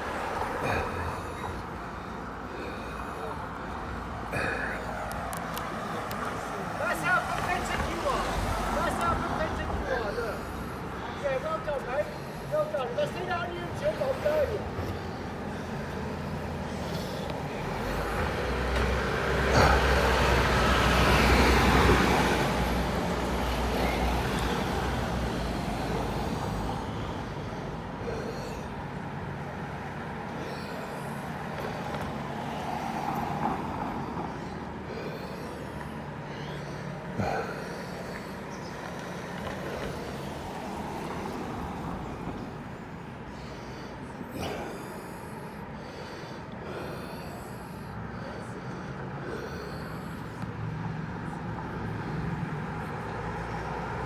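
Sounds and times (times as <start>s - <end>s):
heavy vehicle engine rumble: 0.0s - 54.0s
traffic background: 0.0s - 54.0s.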